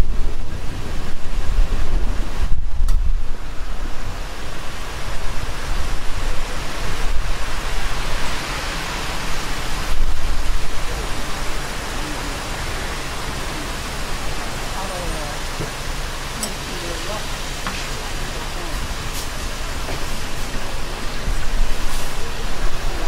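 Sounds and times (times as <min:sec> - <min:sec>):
volcano rushing and rumbling: 0:00.0 - 0:23.0
wind buffeting microphone: 0:00.0 - 0:23.0.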